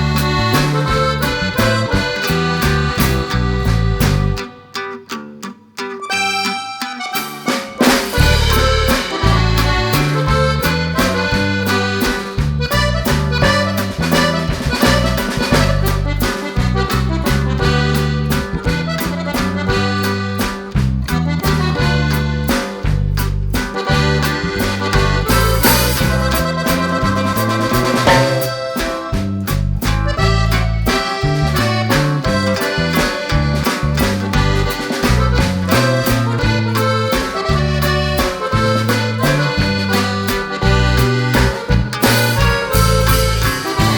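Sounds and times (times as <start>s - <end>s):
rhythmic bass line: 0.0s - 4.6s, 6.1s - 43.9s
accordion lead: 0.0s - 43.9s.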